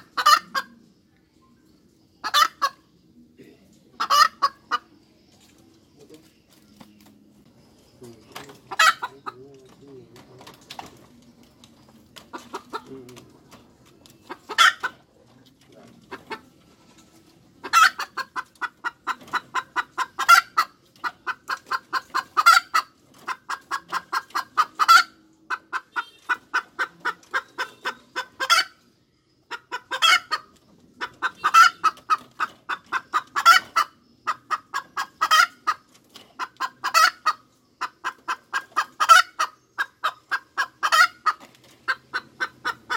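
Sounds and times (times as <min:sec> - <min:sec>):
hen cackling and clucking: 0:00.0 - 0:42.9.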